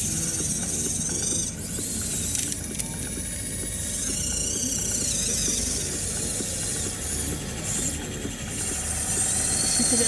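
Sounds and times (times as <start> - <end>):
electric gear motors whining: 0.0 - 10.0.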